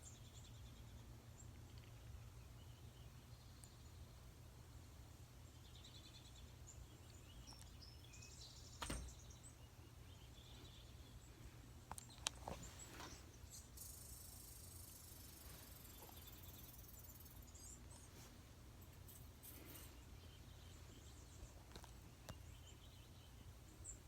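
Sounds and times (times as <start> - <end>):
recorded birdsong: 0.0 - 24.0.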